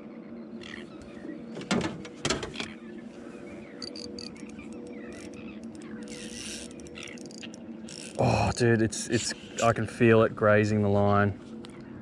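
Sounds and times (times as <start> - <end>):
boat motor humming: 0.4 - 12.0.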